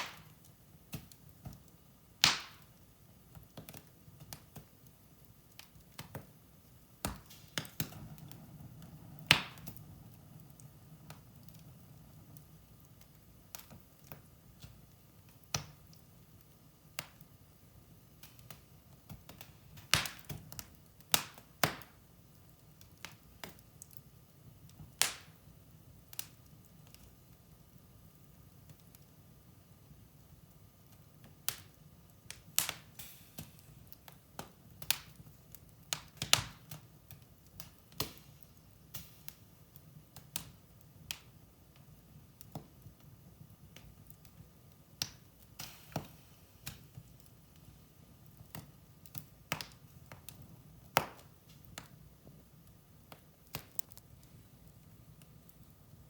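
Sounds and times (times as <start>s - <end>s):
low hiss: 0.0s - 56.0s
wood fire crackling: 0.0s - 56.0s.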